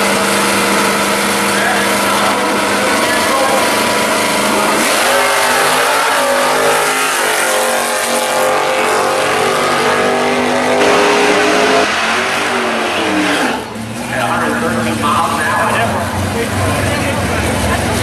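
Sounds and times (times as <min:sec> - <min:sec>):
racing car engines accelerating: 0:00.0 - 0:18.0.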